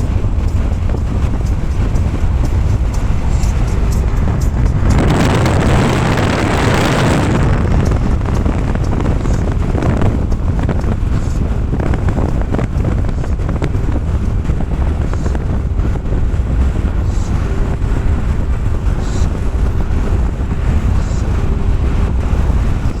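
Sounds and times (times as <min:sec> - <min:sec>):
faint steady hum: 0:00.0 - 0:23.0
wind buffeting microphone: 0:00.0 - 0:23.0.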